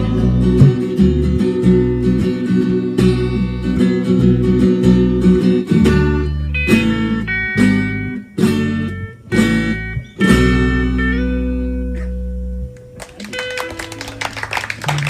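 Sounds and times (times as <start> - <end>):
guitar chords strummed: 0.0 - 13.7.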